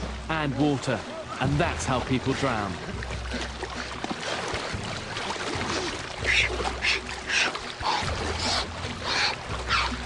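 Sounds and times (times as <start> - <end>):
water sloshing: 0.0 - 10.0.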